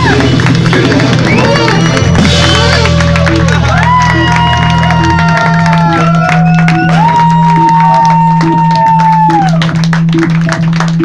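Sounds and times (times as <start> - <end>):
busy percussion: 0.0 - 11.0.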